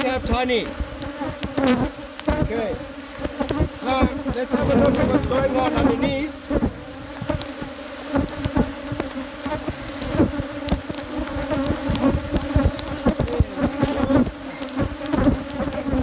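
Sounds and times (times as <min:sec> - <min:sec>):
hive boxes knocking: 0:00.0 - 0:16.0
honeybees buzzing: 0:00.0 - 0:16.0.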